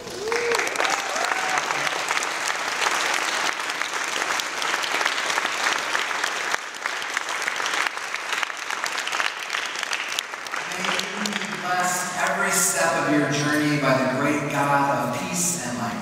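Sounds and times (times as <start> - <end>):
guests clapping: 0.0 - 13.0.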